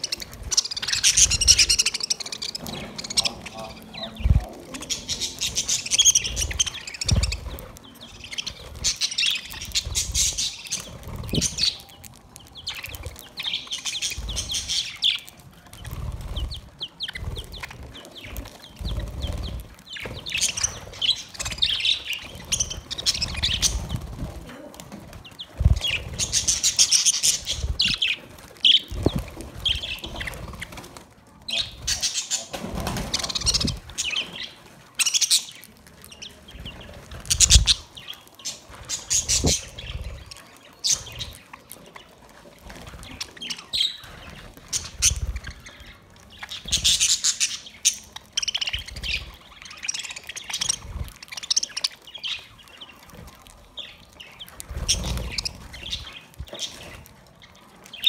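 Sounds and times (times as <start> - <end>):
budgerigars chattering and chirping: 0.0 - 24.2, 25.2 - 30.8, 31.5 - 58.0.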